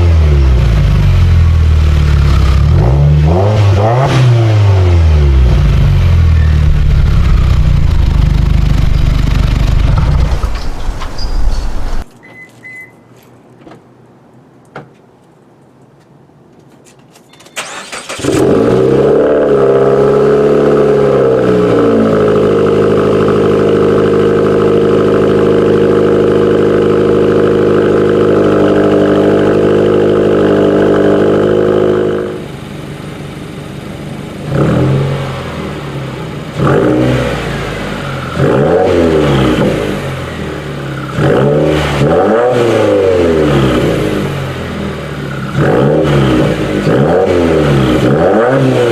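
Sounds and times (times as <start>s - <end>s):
car engine revving and idling: 0.0s - 12.0s, 17.9s - 48.9s.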